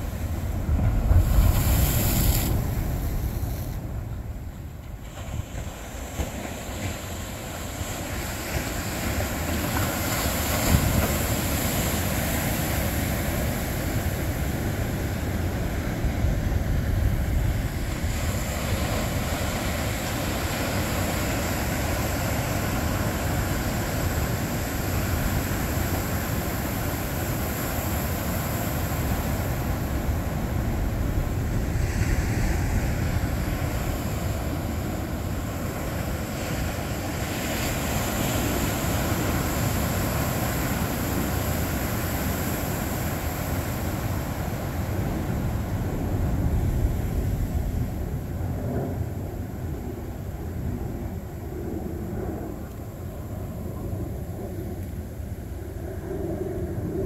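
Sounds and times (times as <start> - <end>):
ocean surf breaking: 0.0 - 57.0
wind rumbling on microphone: 0.0 - 57.0.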